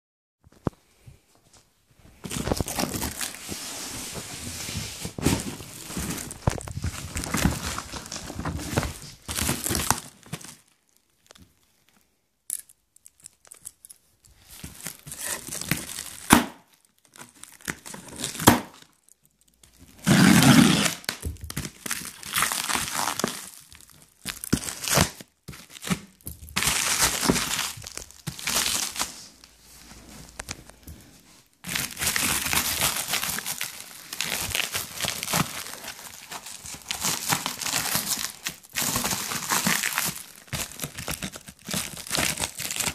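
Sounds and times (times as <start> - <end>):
plastic packaging crinkling and tearing: 2.2 - 11.6, 14.3 - 30.8, 31.6 - 42.9.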